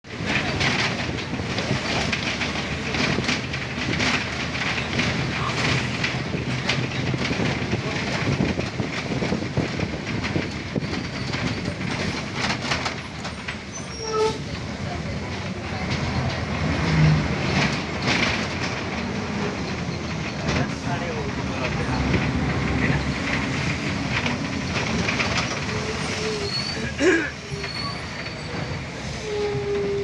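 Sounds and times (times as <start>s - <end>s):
train rumbling along rails: 0.0s - 30.0s
wheels clattering over rail joints: 0.0s - 30.0s.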